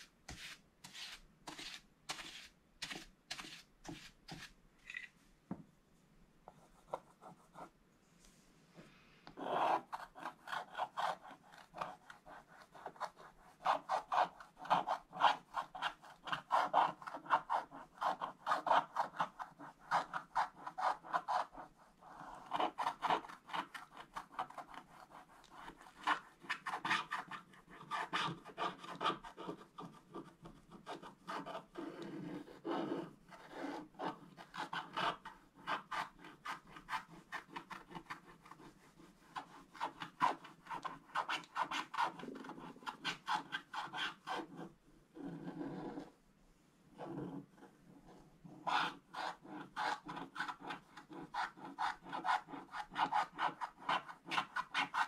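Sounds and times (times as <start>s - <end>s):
stylus scratching paper: 0.0s - 4.6s, 9.4s - 46.2s, 46.9s - 55.0s.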